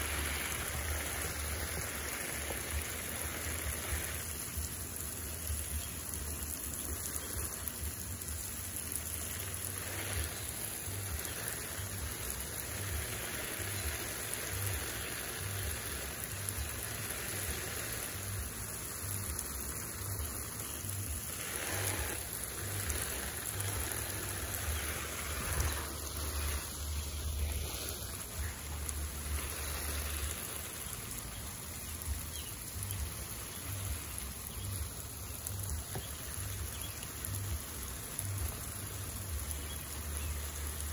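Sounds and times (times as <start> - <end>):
hose water spraying on leaves: 0.0 - 40.9.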